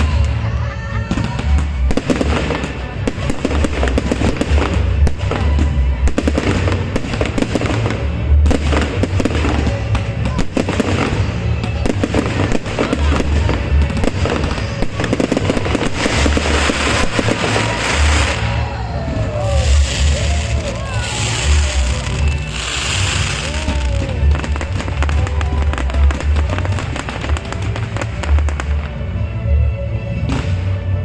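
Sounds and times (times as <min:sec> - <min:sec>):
fireworks bangs and booms: 0:00.0 - 0:29.0, 0:30.2 - 0:31.0
fireworks crackling: 0:00.0 - 0:29.2
music: 0:00.0 - 0:31.0.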